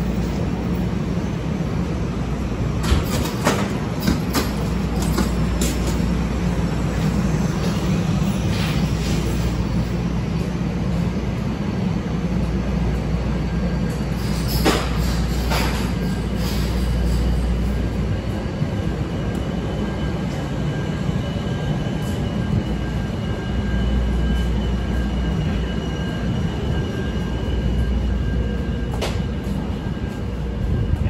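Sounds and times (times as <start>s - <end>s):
train high whine: 0.0s - 31.0s
train rumble: 0.0s - 31.0s.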